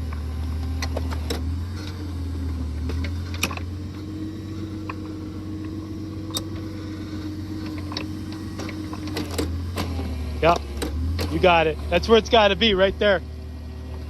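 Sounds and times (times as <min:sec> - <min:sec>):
auger engine running: 0:00.0 - 0:14.0
steady whine: 0:00.0 - 0:14.0.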